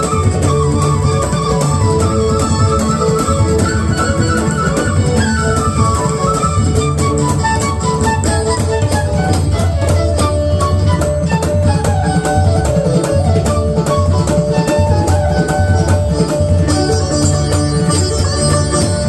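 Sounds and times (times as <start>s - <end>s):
fast percussion beat: 0.0s - 19.0s.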